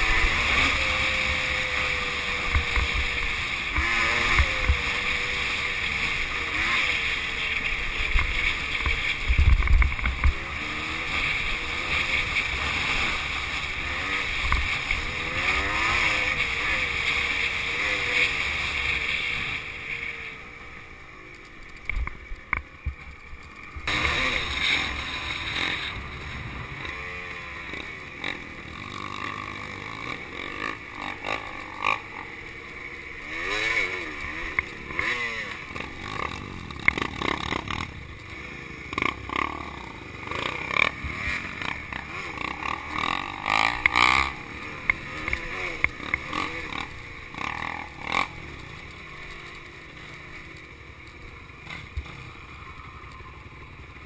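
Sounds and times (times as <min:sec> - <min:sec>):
dirt bike engine revving: 0:00.0 - 0:21.7, 0:22.4 - 0:54.0.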